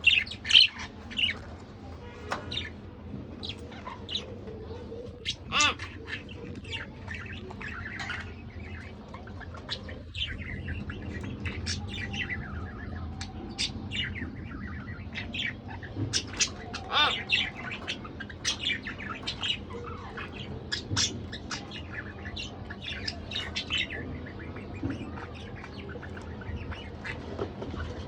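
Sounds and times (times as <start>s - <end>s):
budgerigars chattering and chirping: 0.0s - 28.0s.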